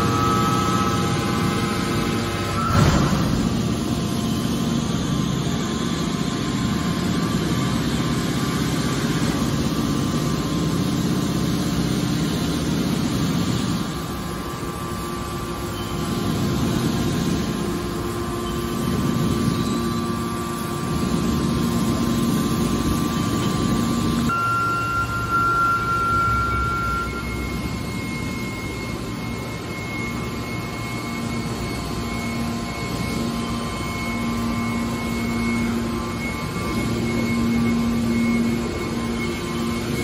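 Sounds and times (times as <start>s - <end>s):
hydraulic baler droning: 0.0s - 40.0s.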